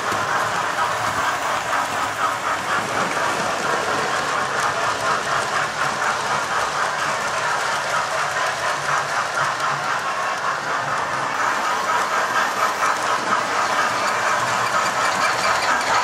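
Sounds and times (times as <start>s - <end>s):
model train wheels clicking on track: 0.0s - 16.0s.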